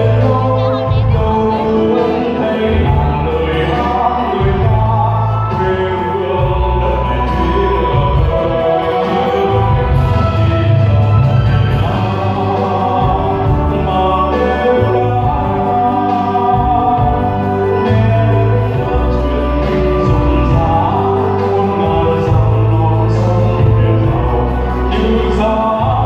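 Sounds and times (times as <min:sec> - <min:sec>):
backing track with heavy bass: 0:00.0 - 0:26.0
choir-like voices singing: 0:00.0 - 0:26.0
man singing solo: 0:00.0 - 0:26.0.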